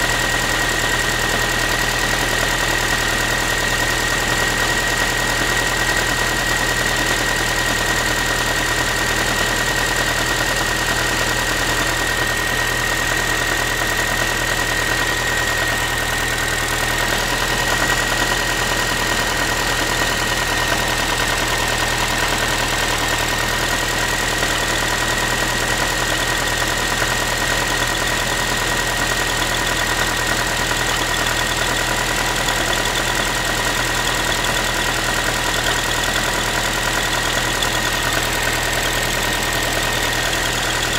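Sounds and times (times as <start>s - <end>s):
car engine idling: 0.1s - 40.9s.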